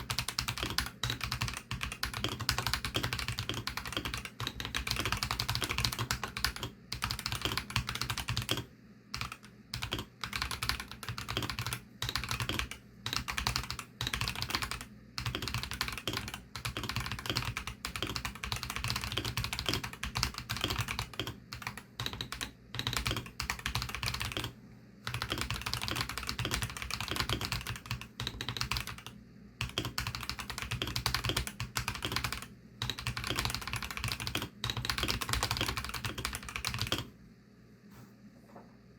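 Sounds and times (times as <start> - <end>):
fast typing on mechanical keyboard: 0.0 - 24.5, 25.1 - 37.1.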